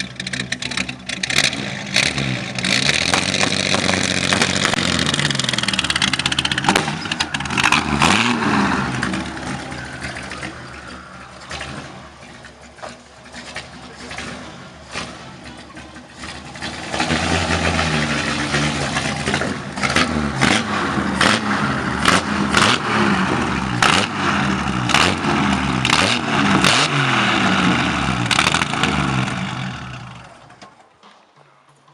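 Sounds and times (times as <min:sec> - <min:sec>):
car engine revving: 0:00.0 - 0:30.6
sharp exhaust cracks: 0:00.0 - 0:31.2.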